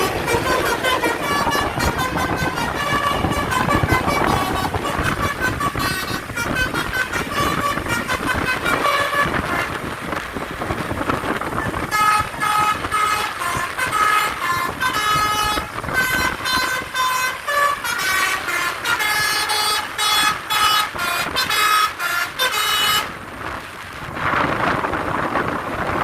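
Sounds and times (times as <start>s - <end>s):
multi-tone bus horn tune: 0.0s - 23.5s
engine rumble: 0.0s - 26.0s.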